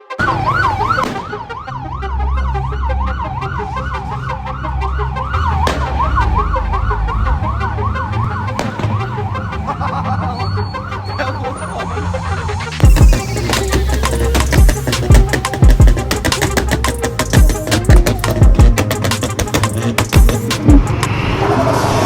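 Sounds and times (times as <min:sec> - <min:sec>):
police siren yelping: 0:00.0 - 0:22.0.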